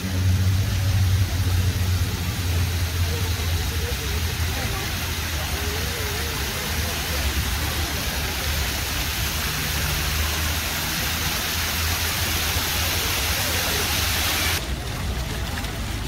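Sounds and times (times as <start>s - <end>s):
low steady rumble: 0.0s - 13.9s
water rushing down fountain: 0.0s - 16.0s.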